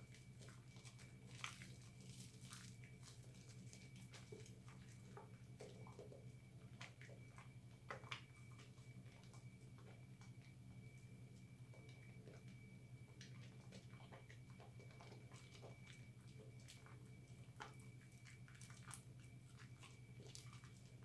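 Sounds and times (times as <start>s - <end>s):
soap lather squishing between hands: 0.0s - 21.0s
steady low hum: 0.0s - 21.0s.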